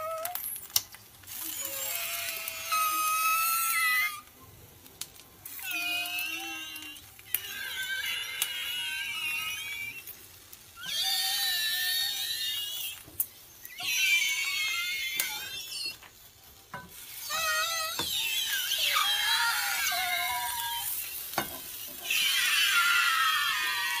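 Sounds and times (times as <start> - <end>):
food squealing in a frying pan: 0.0 - 4.4, 5.4 - 24.0
frying hiss: 0.0 - 24.0.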